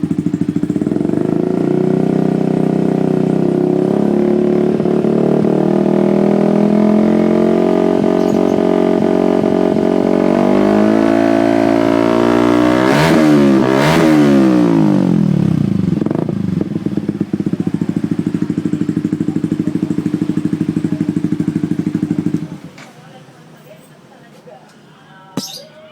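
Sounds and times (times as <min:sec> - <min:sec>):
motorcycle engine revving: 0:00.0 - 0:22.8.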